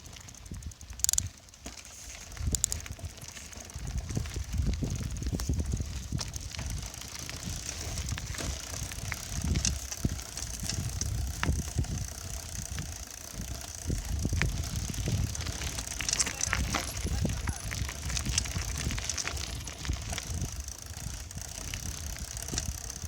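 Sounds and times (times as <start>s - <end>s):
bicycle riding rumble: 0.0s - 23.0s
bike rattling over bumps: 0.0s - 23.0s.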